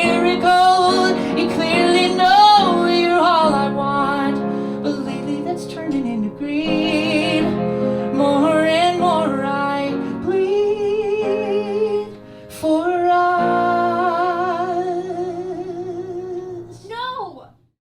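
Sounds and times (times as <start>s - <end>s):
woman singing with vibrato: 0.0s - 16.8s.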